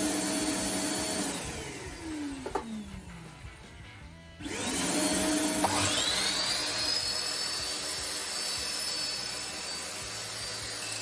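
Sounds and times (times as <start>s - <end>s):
mitre saw motor whining: 0.0s - 3.1s, 4.4s - 11.0s
shop vacuum running: 0.0s - 3.7s, 4.4s - 11.0s.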